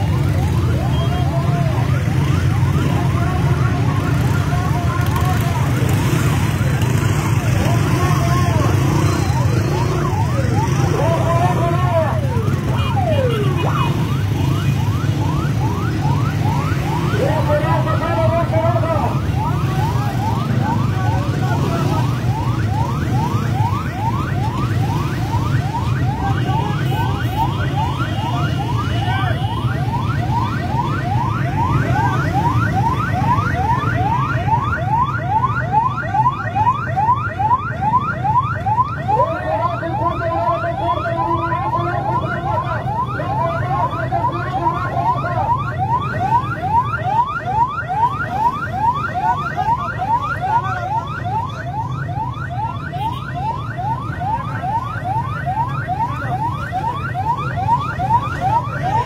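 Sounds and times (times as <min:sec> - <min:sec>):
ambulance siren yelping: 0:00.0 - 0:59.0
dense crowd noise: 0:00.0 - 0:59.0.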